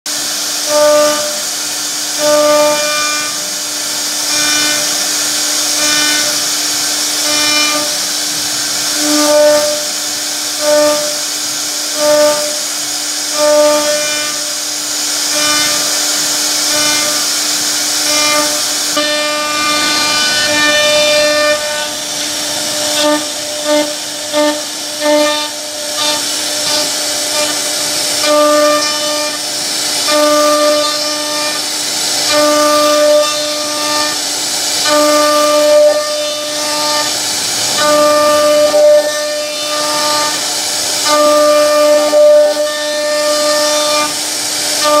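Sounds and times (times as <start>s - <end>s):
cnc router cutting wood: 0.1s - 45.0s.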